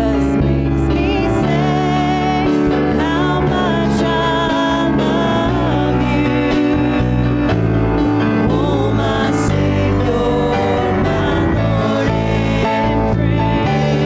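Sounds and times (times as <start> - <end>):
acoustic guitar: 0.0 - 14.0
drum kit: 0.0 - 14.0
keyboard: 0.0 - 14.0
voices singing: 0.0 - 14.0.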